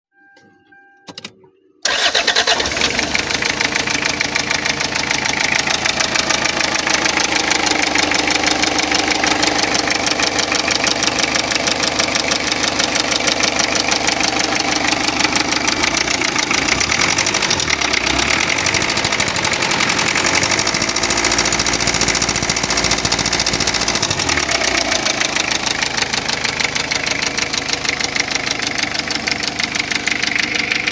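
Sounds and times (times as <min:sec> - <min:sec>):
diesel engine knocking: 0:01.9 - 0:30.9.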